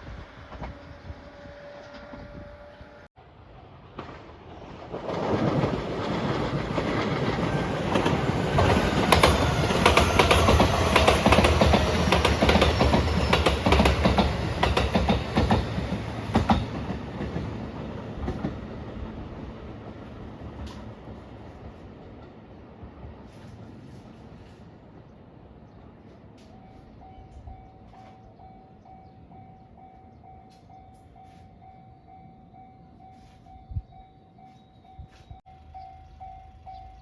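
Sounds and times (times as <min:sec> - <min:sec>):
rumble of wheels on rail: 0:00.0 - 0:37.0.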